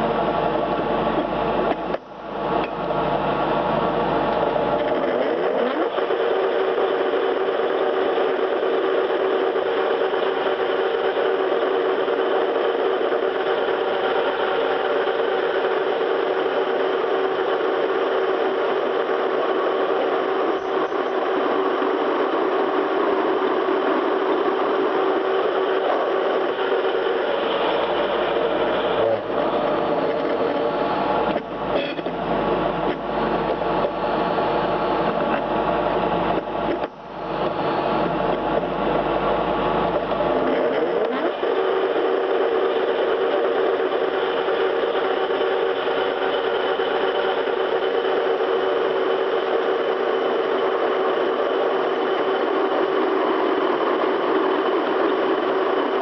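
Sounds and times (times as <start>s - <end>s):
electric motor humming: 8.8s - 56.0s.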